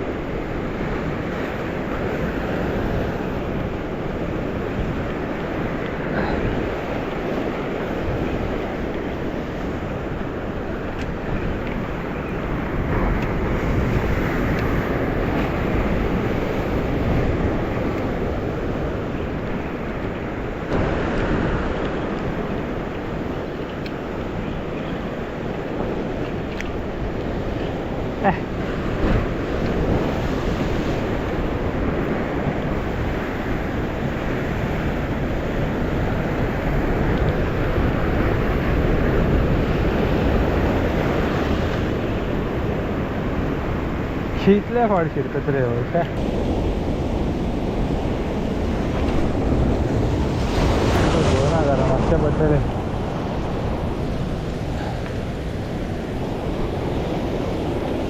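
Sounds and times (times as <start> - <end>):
rough surf: 0.0 - 58.0
wind buffeting microphone: 0.0 - 58.0.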